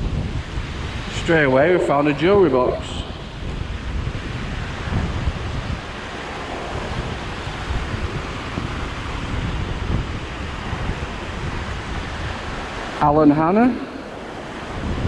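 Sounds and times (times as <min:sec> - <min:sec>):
water rushing from overflow: 0:00.0 - 0:15.0
wind buffeting microphone: 0:00.0 - 0:15.0.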